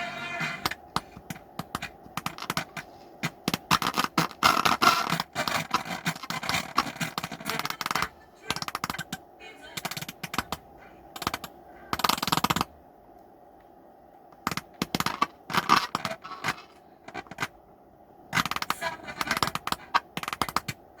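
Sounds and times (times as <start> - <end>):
crackling and popping from speakers: 0.0 - 21.0.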